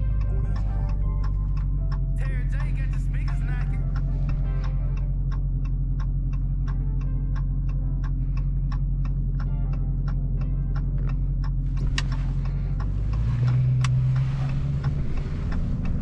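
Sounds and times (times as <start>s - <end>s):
car engine idling: 0.0s - 16.0s
turn signal ticking: 0.0s - 16.0s.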